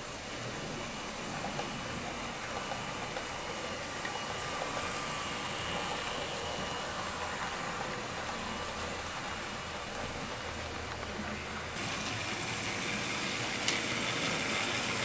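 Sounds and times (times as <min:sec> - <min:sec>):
model trains whirring on rails: 0:00.0 - 0:15.0.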